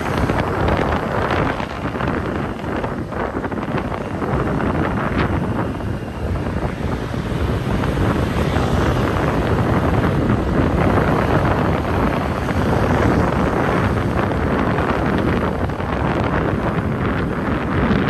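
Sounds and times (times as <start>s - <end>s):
road rumble: 0.0s - 18.0s
wind rushing over microphone: 0.0s - 18.0s.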